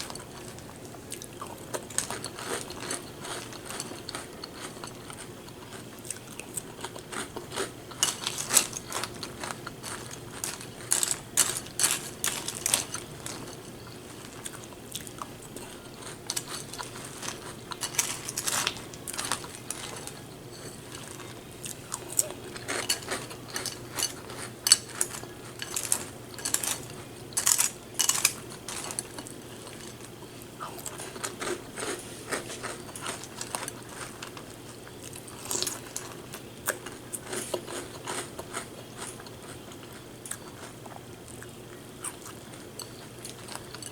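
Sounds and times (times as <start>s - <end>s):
crunchy cereal being chewed: 0.0s - 43.9s.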